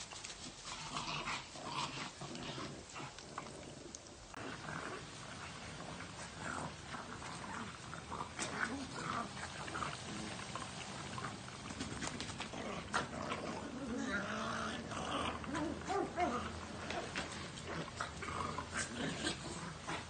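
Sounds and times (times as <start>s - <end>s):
dogs growling and grunting: 0.6s - 20.0s.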